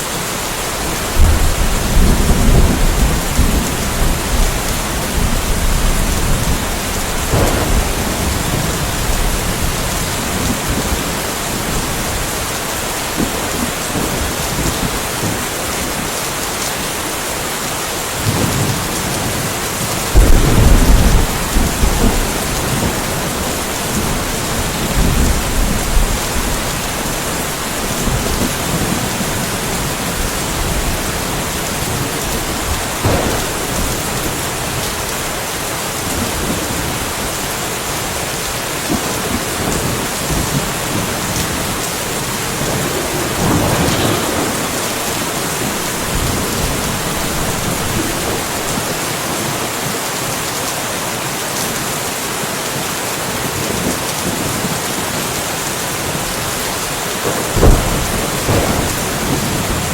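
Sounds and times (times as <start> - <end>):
steady rain hiss: 0.0 - 59.9
low thunder rumbles: 0.7 - 16.2, 18.2 - 49.5, 57.2 - 59.9.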